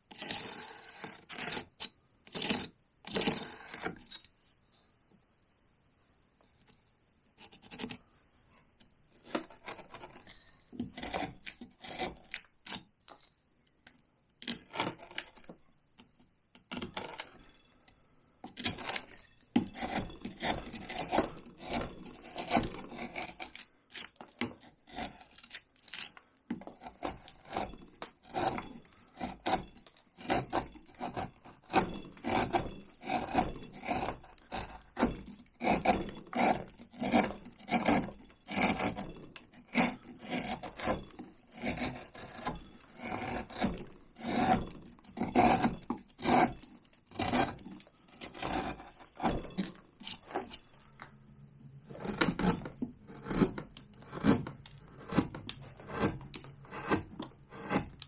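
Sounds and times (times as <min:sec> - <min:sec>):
carving tool scraping bark: 0:00.0 - 0:04.2, 0:07.4 - 0:08.1, 0:09.1 - 0:12.9, 0:14.4 - 0:15.5, 0:16.6 - 0:17.6, 0:18.5 - 0:51.1, 0:51.8 - 0:58.0.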